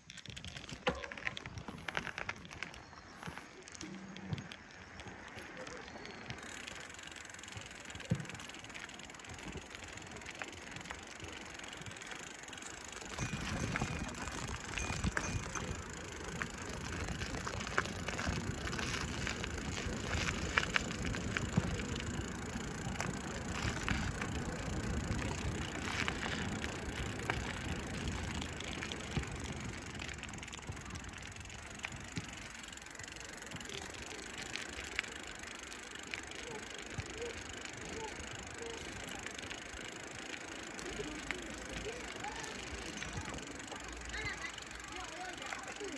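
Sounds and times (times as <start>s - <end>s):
bicycle rattling and clicking: 0.0s - 45.9s.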